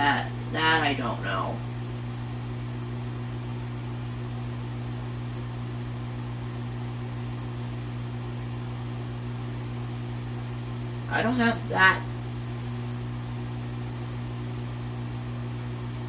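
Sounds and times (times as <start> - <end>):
motor or fan humming: 0.0 - 16.0.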